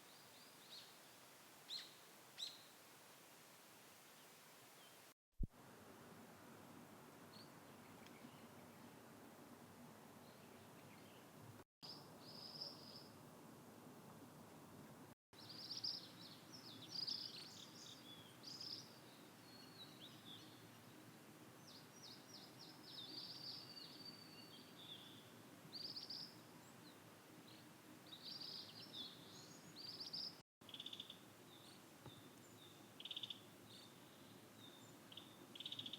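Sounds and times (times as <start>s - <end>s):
low background hiss: 0.0s - 35.9s.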